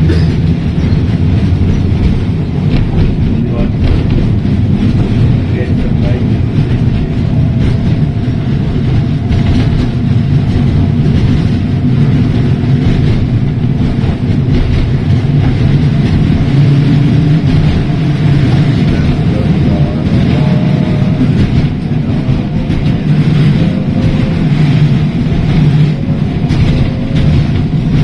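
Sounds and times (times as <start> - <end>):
tram wheels rumbling on rail: 0.0 - 28.0.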